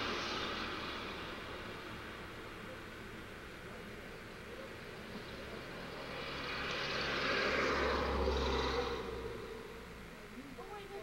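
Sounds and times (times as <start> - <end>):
rushing engine passing by: 0.0 - 3.4, 4.3 - 10.2.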